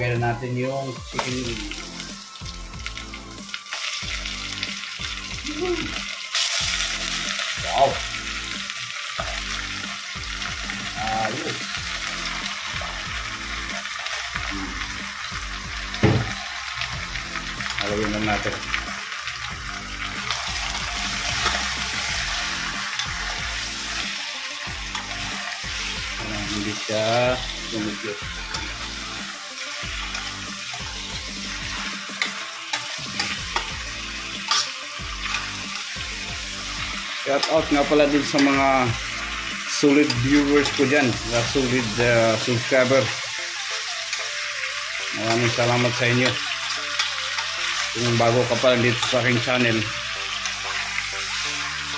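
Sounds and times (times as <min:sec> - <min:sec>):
meat sizzling in hot oil: 0:00.2 - 0:51.9.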